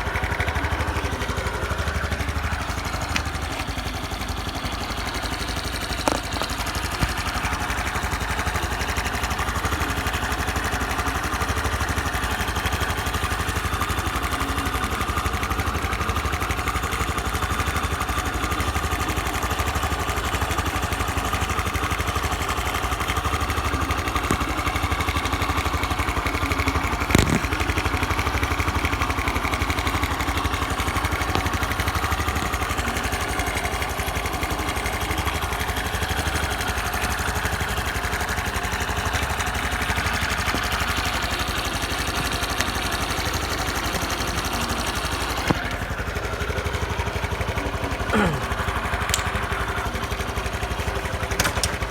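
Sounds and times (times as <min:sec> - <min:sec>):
motorcycle engine idling: 0:00.0 - 0:51.9.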